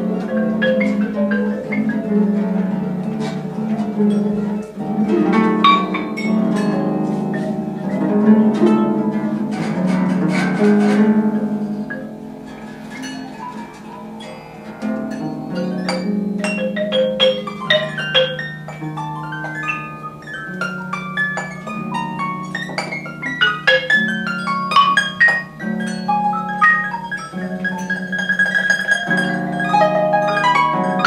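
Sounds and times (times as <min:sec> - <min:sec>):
harps playing: 0:00.0 - 0:31.0.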